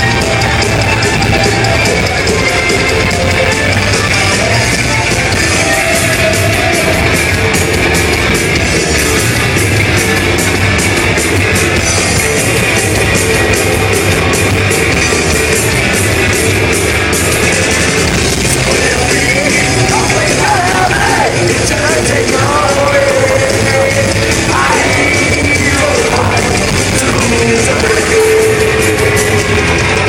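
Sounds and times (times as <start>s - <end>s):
bass guitar: 0.0s - 30.0s
distorted electric guitar solo: 0.0s - 30.0s
drums and cymbals: 0.0s - 30.0s.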